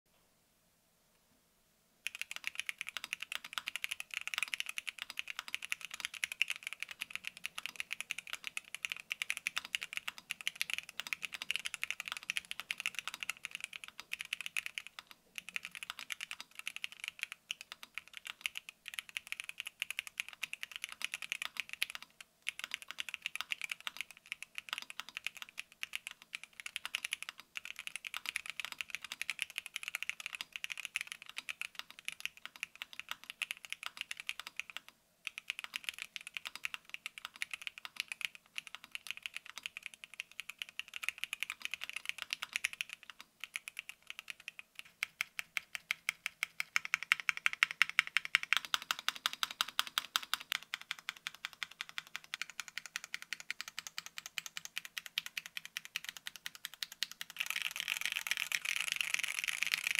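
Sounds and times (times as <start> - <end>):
mechanical keyboard typing: 2.0 - 59.9.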